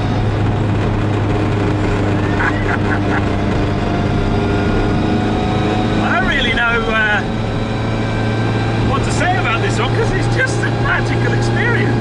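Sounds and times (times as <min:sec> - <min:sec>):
car engine running evenly: 0:00.0 - 0:12.0
gearbox whine: 0:00.0 - 0:12.0.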